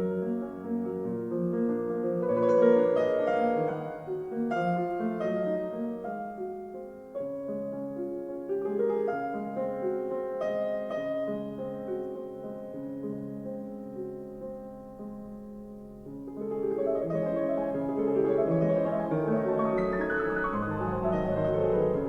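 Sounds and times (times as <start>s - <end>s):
piano music through speakers: 0.0s - 22.0s.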